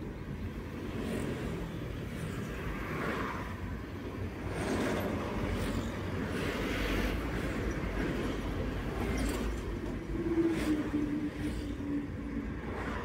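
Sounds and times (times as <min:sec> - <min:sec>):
road and engine noise inside car: 0:00.0 - 0:13.0.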